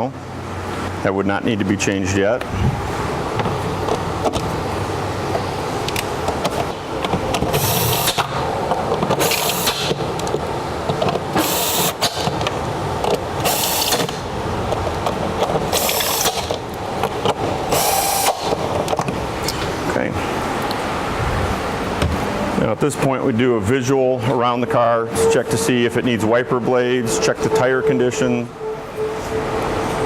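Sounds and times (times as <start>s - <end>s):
workshop background noise: 0.0s - 30.0s.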